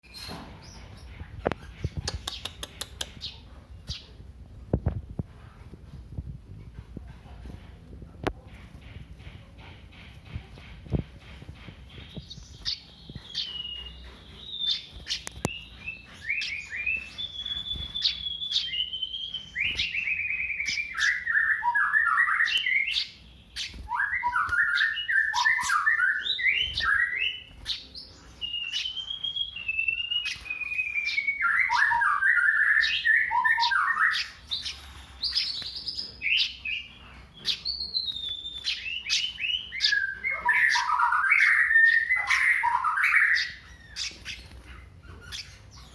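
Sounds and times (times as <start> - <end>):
sharp bird chips: 0.0 - 4.1, 8.5 - 45.9
sparrow calling: 8.5 - 45.9.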